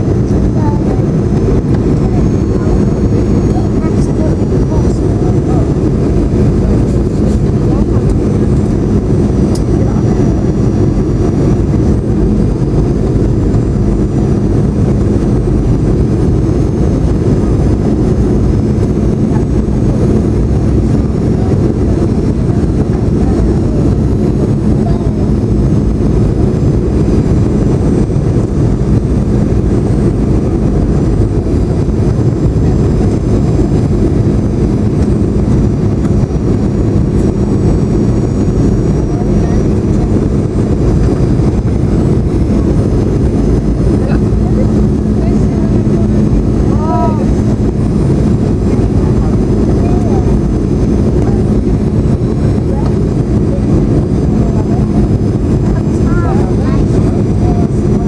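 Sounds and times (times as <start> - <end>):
jet engine rumble: 0.0 - 58.0
rushing airflow: 0.0 - 58.0
steady hum: 0.0 - 58.0.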